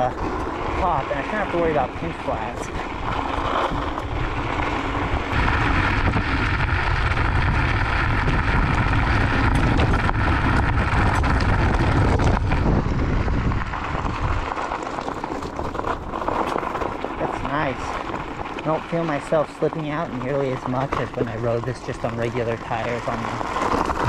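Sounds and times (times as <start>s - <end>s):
clicks and rattles of stones: 0.0s - 24.0s
tyres rolling over gravel: 0.0s - 24.0s
wind rushing over microphone: 0.0s - 24.0s.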